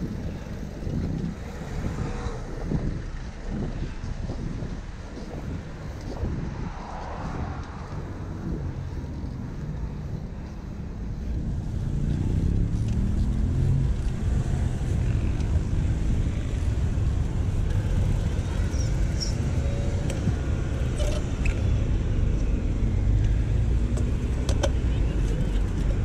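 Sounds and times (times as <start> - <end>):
car traffic rumble: 0.0 - 26.0.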